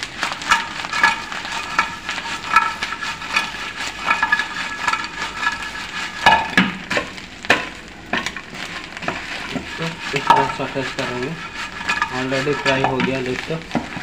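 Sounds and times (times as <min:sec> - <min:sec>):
wooden spatula scraping frying pan: 0:00.0 - 0:14.0
pan knocking: 0:00.3 - 0:14.0.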